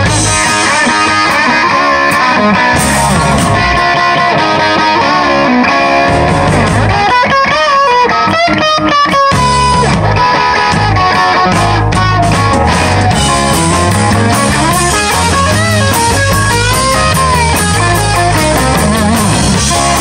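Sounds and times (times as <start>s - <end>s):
bass guitar: 0.0s - 20.0s
drums: 0.0s - 20.0s
electric guitar lead notes: 0.0s - 20.0s.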